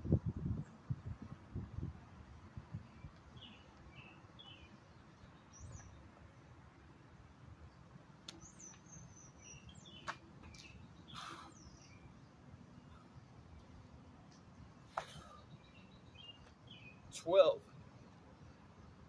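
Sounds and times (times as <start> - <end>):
small birds chirping: 2.7 - 19.0.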